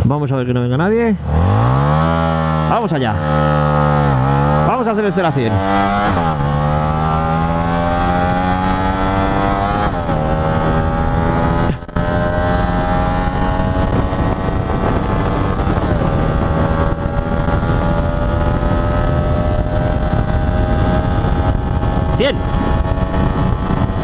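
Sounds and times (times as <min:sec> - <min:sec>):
motorcycle engine accelerating: 0:01.1 - 0:24.0.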